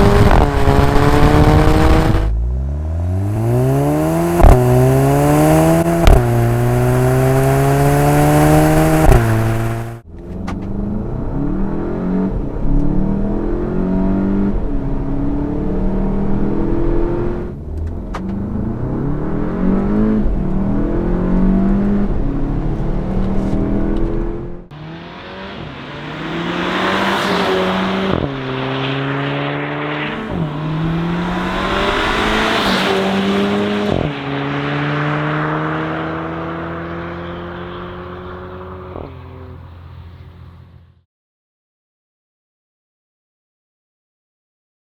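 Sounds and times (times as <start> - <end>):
car engine accelerating hard: 0.0 - 40.9.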